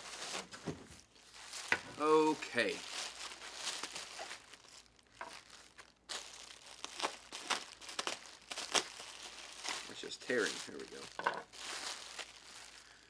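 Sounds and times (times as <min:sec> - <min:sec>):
bubble wrap crinkling and crackling: 0:00.0 - 0:13.0.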